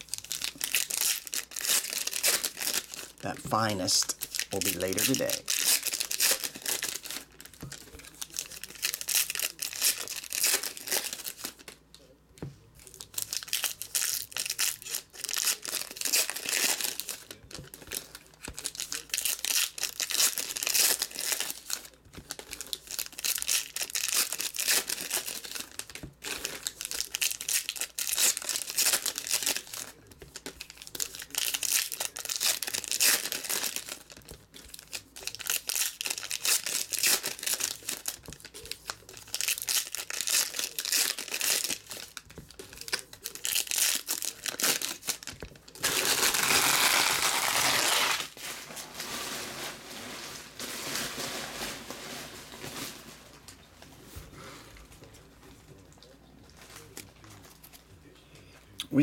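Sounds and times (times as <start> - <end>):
foil packs tearing open: 0.0 - 11.8, 12.9 - 53.0
wrappers crinkling: 0.0 - 12.0, 12.8 - 54.0, 55.0 - 57.9.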